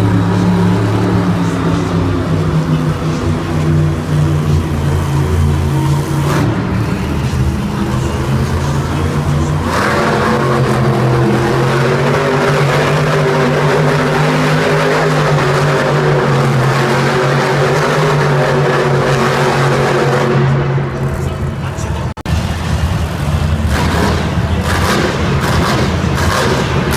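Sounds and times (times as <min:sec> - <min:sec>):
monster truck engines running: 0:00.0 - 0:26.9.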